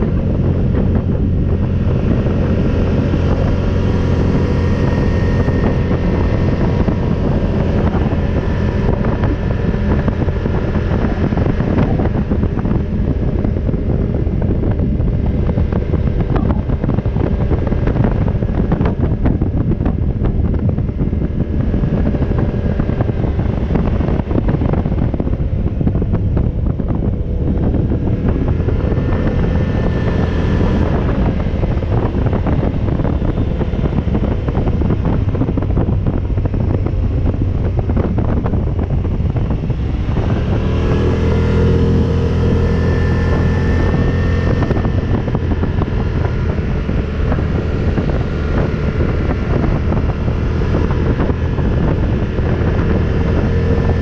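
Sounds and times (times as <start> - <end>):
atv engine running: 0.0 - 54.0
wind buffeting microphone: 0.0 - 54.0.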